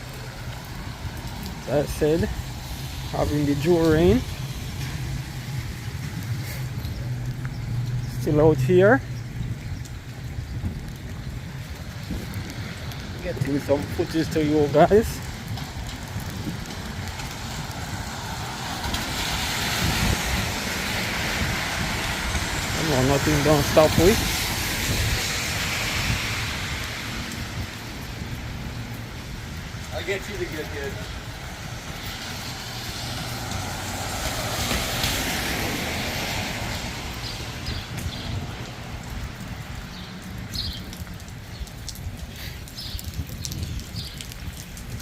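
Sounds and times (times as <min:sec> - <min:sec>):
vehicle passing on wet street: 0:00.0 - 0:45.0.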